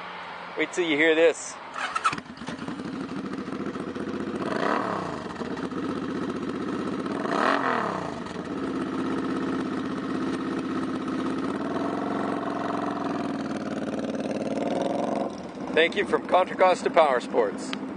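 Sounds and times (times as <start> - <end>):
motorcycle engine revving and idling: 1.7 - 17.9.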